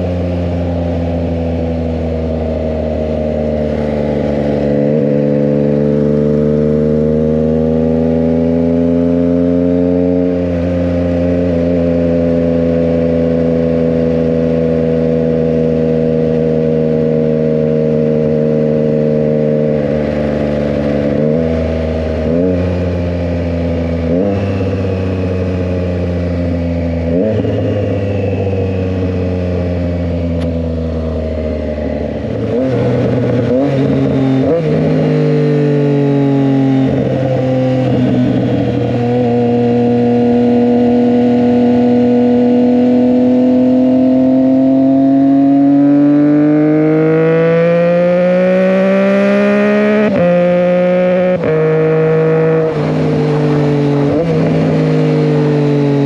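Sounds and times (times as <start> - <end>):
engine revving on downshifts: 0.0 - 56.0
motorcycle engine cruising: 0.0 - 56.0.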